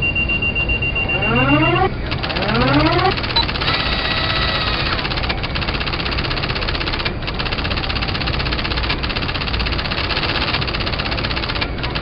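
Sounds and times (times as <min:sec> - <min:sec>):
rapid mechanical rattle: 0:01.2 - 0:12.0.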